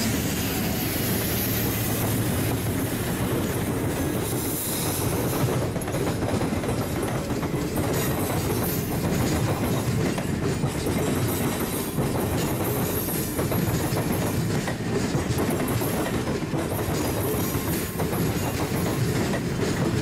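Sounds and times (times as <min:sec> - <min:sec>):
clattering clicks of train wheels: 0:00.0 - 0:20.0
train wheels rumbling on rails: 0:00.0 - 0:20.0.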